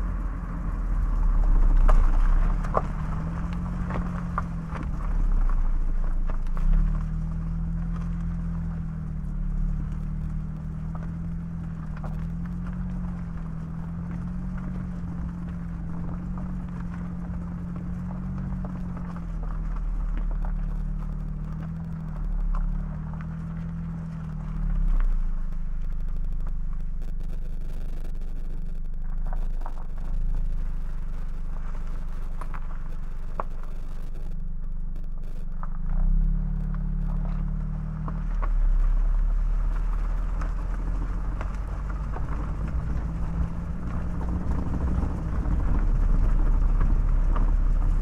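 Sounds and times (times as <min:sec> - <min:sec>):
low engine hum: 0:00.0 - 0:48.0
road and wind rumble: 0:00.0 - 0:48.0
tyre ticks: 0:00.0 - 0:48.0.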